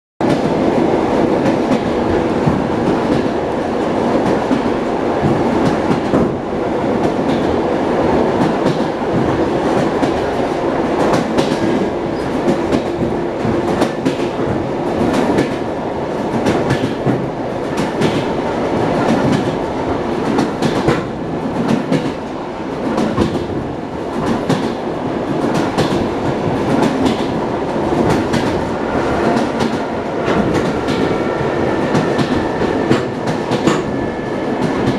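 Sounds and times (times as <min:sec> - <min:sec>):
train rumble inside carriage: 0:00.2 - 0:34.9.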